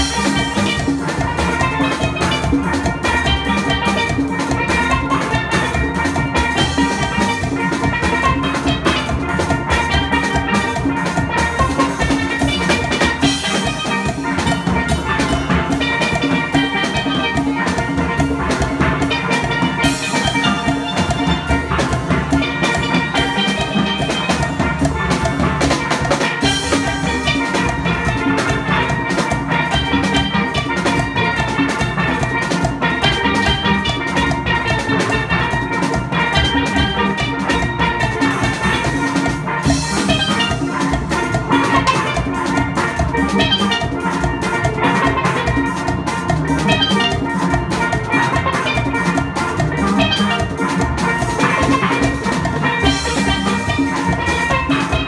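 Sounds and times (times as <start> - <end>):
driving beat: 0.0 - 55.0
steel pans playing melody: 0.0 - 55.0.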